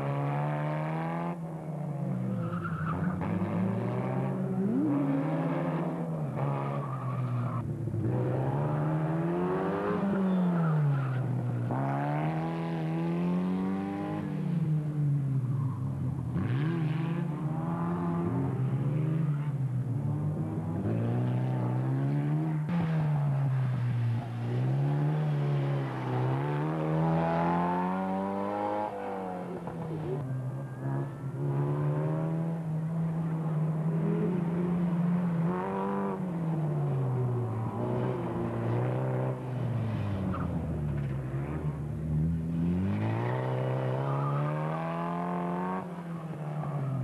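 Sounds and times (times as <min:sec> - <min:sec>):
racing car engines accelerating: 0:00.0 - 0:47.0.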